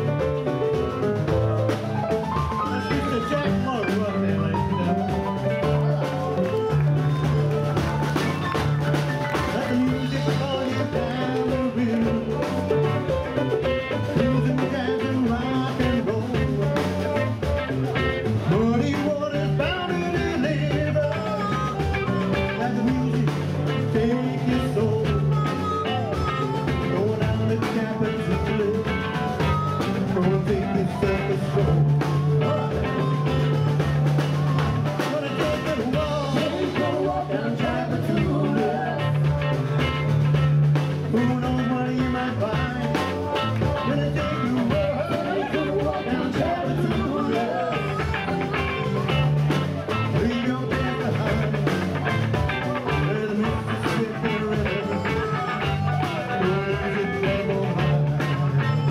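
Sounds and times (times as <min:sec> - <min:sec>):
bass: 0:00.0 - 0:58.9
drum kit: 0:00.0 - 0:58.9
electric guitar: 0:00.0 - 0:58.9
harmonica: 0:00.0 - 0:58.9
keyboards: 0:00.0 - 0:58.9
person singing: 0:00.0 - 0:58.9.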